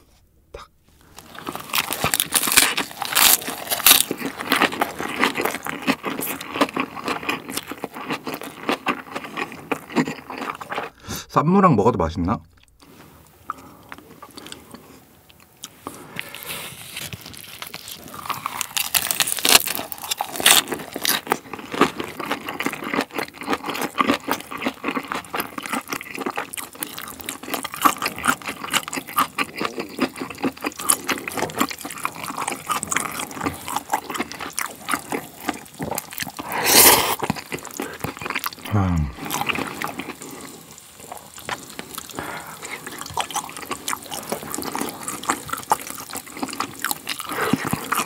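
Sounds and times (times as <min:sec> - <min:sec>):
wet chewing and crunching: 0:01.1 - 0:11.0, 0:12.6 - 0:48.0.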